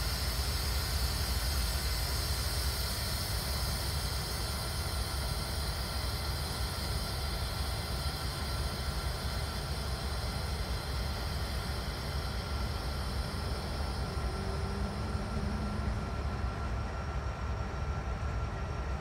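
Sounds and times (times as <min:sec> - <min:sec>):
locomotive idling rumble: 0:00.0 - 0:19.0.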